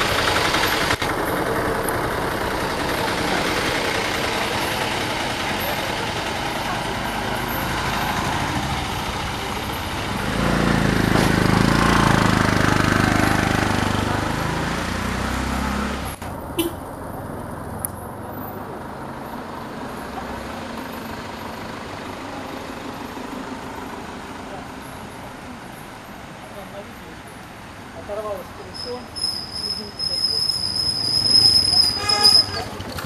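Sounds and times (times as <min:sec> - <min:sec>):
vehicle engine passing: 0:00.0 - 0:28.4
road noise: 0:00.0 - 0:33.0.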